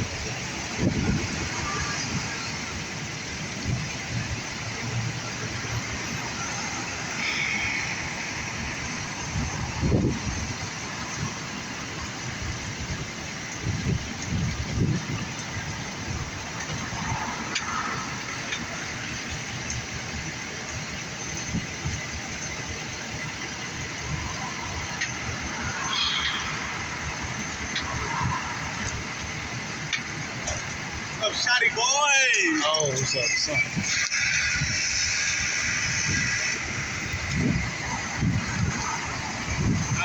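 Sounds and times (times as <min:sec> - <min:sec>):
vehicle running noise: 0:00.0 - 0:40.0.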